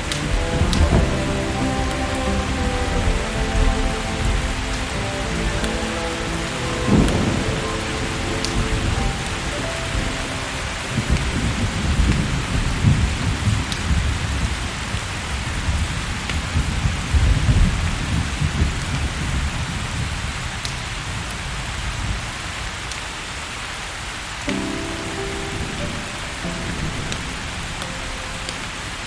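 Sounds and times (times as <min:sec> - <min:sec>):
rolling thunder: 0:00.0 - 0:22.2, 0:24.5 - 0:29.0
heavy rain: 0:00.0 - 0:29.0.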